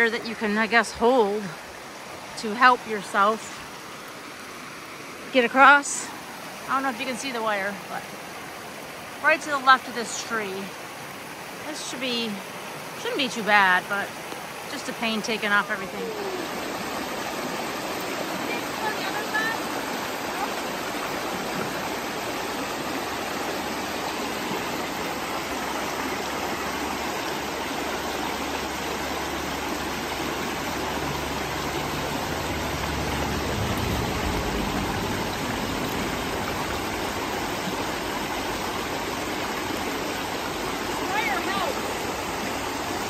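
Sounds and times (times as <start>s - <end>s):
creek rushing over stones: 0.0s - 43.0s.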